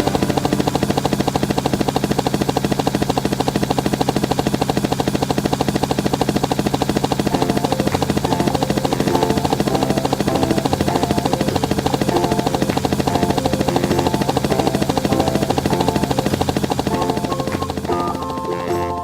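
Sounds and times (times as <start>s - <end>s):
machine pulsing hum: 0.0s - 3.4s, 7.0s - 19.0s.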